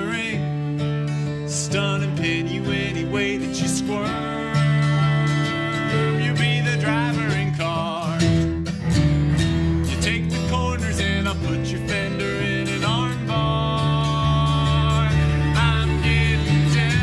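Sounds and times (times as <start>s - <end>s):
bowed cello notes: 0.0s - 8.0s, 9.2s - 17.0s
acoustic guitar strumming: 0.0s - 17.0s
keyboard: 0.0s - 17.0s.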